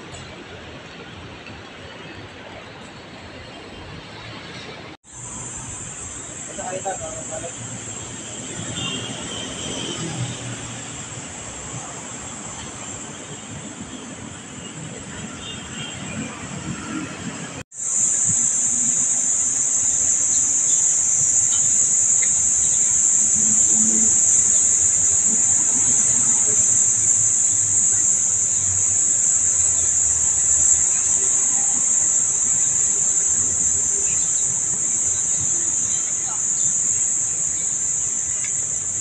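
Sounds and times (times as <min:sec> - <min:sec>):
insects droning: 0:05.0 - 0:39.0.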